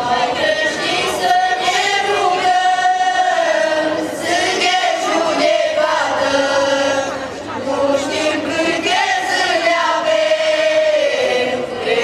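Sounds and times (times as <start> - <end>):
women's choir singing a carol: 0.0 - 12.0.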